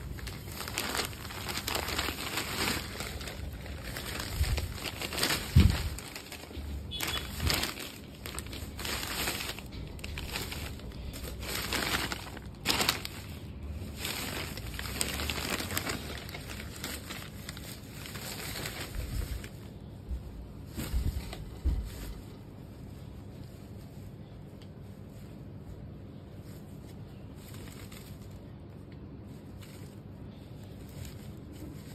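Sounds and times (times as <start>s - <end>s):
fabric rustling and crinkling: 0.0s - 31.9s.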